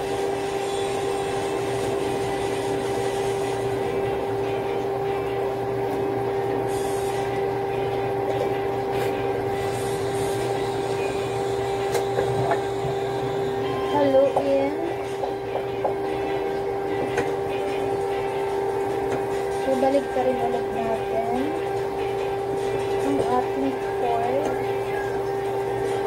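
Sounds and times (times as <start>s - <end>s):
cooling fan hiss: 0.0s - 26.0s
induction cooktop hum: 0.0s - 26.0s.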